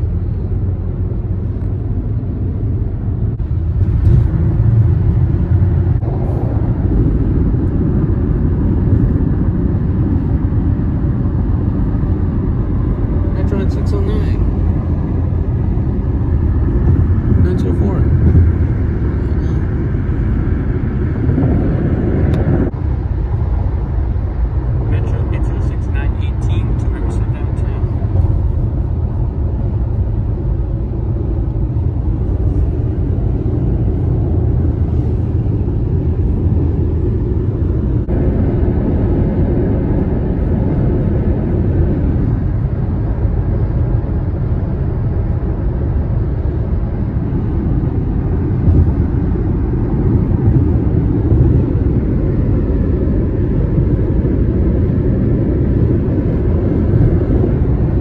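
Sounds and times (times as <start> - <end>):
car tyre and wind rumble: 0.0 - 58.0.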